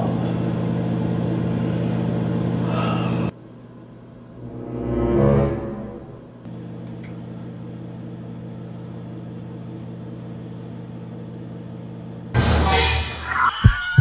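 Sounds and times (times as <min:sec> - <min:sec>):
steady low hum: 0:00.2 - 0:12.3.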